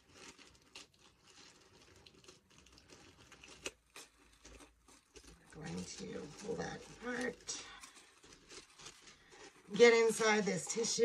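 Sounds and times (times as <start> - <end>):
paper packaging crinkling: 0.0 - 11.0.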